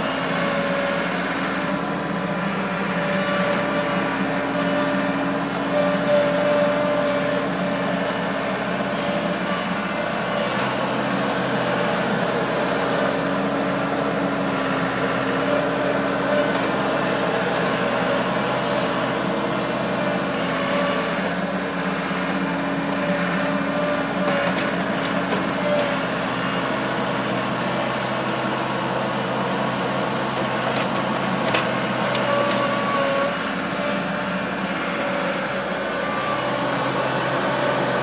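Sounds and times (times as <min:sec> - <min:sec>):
skid steer engine running: 0:00.0 - 0:38.0.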